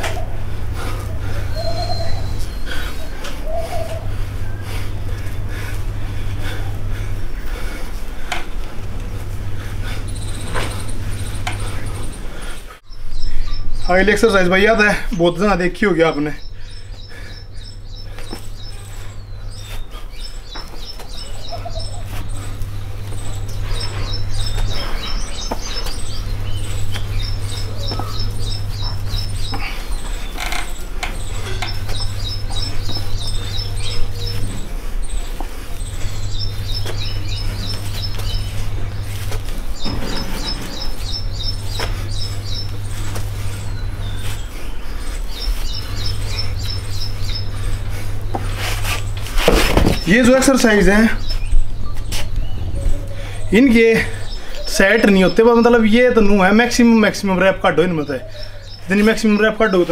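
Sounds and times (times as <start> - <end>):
small birds chirping: 0.0 - 59.9
steady low hum: 0.0 - 59.9.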